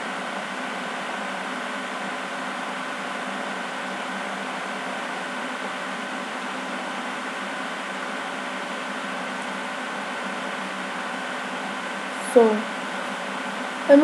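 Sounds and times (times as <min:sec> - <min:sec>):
faint hum tones: 0:00.0 - 0:14.0.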